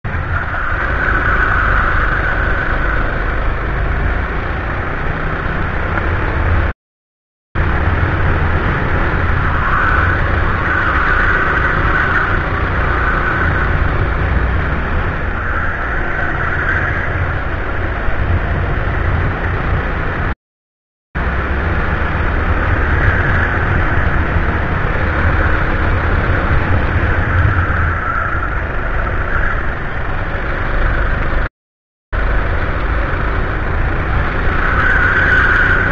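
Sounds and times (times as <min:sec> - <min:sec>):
go-kart engine running hard: 0:00.2 - 0:06.7, 0:07.6 - 0:20.2, 0:21.2 - 0:31.5, 0:32.2 - 0:35.9.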